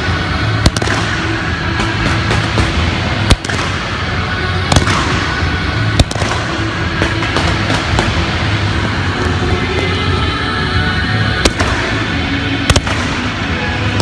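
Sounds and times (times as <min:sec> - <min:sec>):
music: 0:00.0 - 0:14.0
fireworks bangs and cracks: 0:00.5 - 0:04.0, 0:04.7 - 0:10.4, 0:11.4 - 0:14.0.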